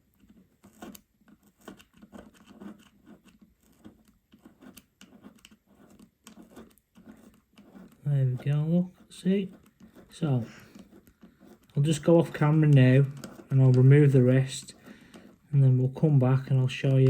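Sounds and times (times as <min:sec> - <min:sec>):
adhesive tape scraped and peeled: 0:00.0 - 0:15.5.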